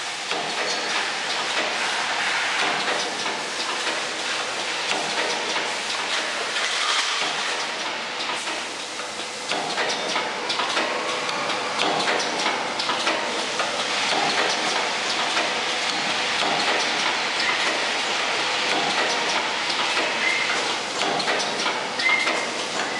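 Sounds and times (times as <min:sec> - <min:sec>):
machine clattering: 0:02.6 - 0:11.1, 0:11.7 - 0:22.9.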